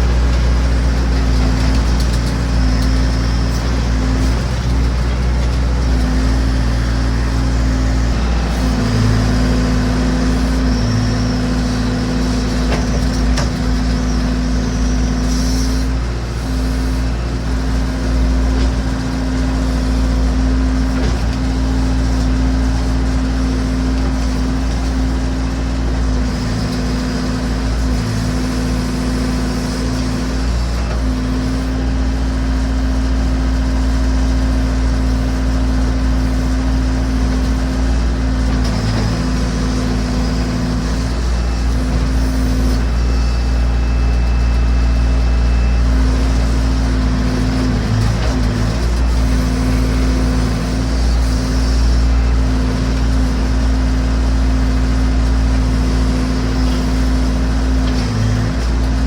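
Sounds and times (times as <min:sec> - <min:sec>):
backhoe engine running: 0:00.0 - 0:59.0.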